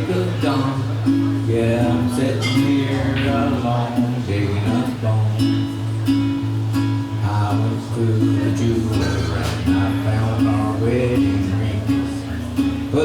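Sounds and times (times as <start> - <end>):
acoustic guitar strumming: 0.0 - 13.0
low bass notes: 0.0 - 13.0.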